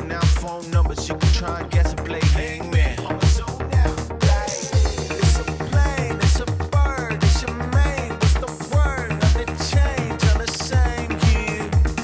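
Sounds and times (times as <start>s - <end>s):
deep kick drum: 0.0s - 12.0s
upbeat rap dance track: 0.0s - 12.0s.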